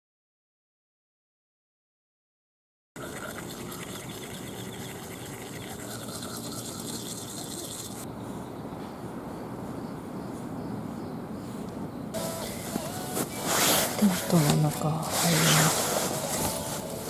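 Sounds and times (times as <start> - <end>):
distant city traffic hum: 3.0 - 17.0.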